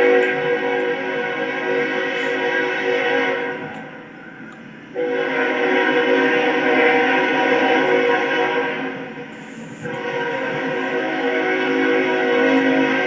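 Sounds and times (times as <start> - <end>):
locomotive air horn: 0.0 - 13.0.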